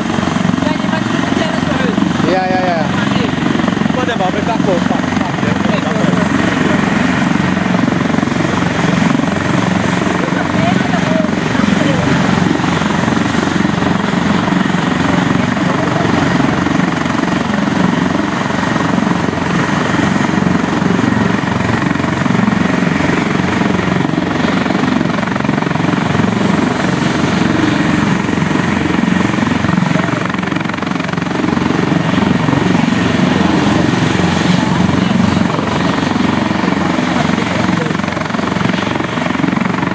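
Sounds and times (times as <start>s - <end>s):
helicopter rotor turning: 0.0s - 39.9s
turbine engines whining: 0.0s - 39.9s.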